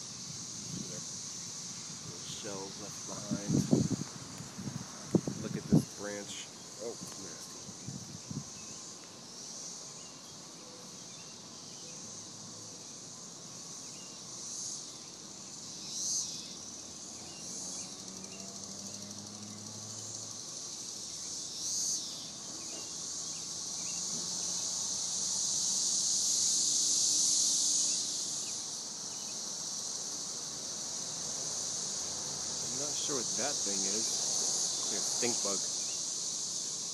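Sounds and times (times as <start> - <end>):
cicadas buzzing drone: 0.0 - 36.9.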